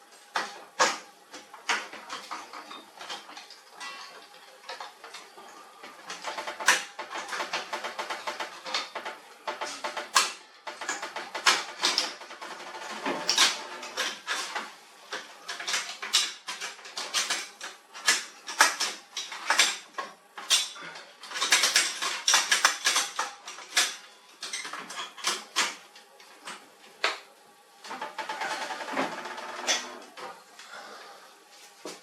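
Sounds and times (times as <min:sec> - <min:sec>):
plastic parts clicking and clattering: 0:00.2 - 0:27.3.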